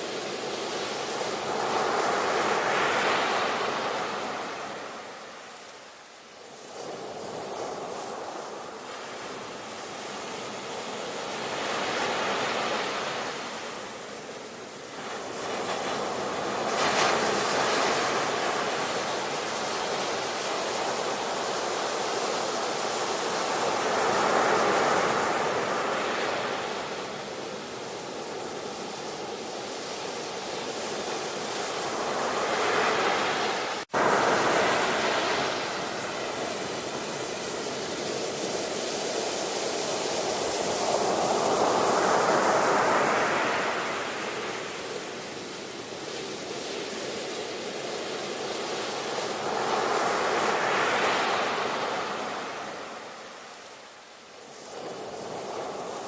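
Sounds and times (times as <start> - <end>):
ocean waves breaking: 6.5 - 56.0.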